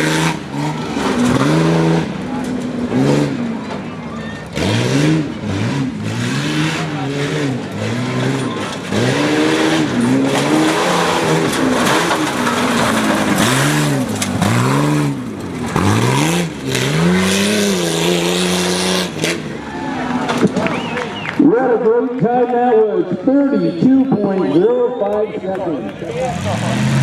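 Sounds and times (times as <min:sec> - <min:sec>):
truck engine revving: 0:00.0 - 0:22.1, 0:25.1 - 0:27.0.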